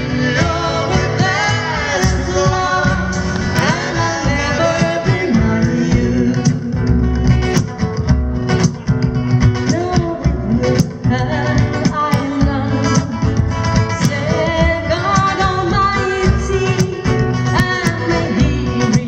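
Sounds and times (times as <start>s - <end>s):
frame drum beat: 0.0s - 19.0s
strummed acoustic guitar: 0.0s - 19.0s.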